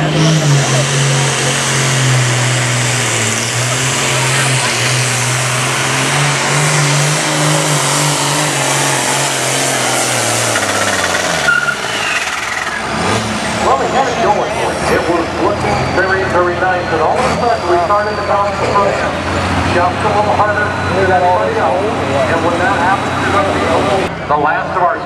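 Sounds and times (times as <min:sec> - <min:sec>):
diesel tractor engine under load: 0:00.0 - 0:25.0.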